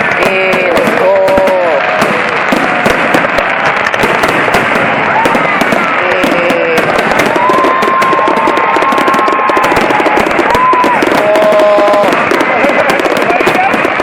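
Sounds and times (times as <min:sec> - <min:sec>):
firecrackers crackling and popping: 0:00.0 - 0:14.0.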